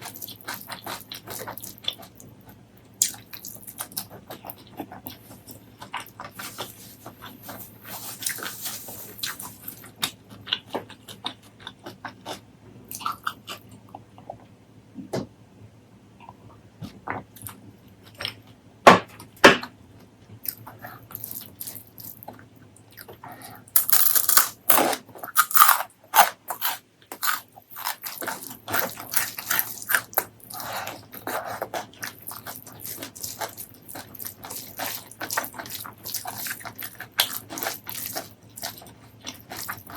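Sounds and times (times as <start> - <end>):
wet chewing and crunching: 0.0 - 14.4, 20.4 - 39.9.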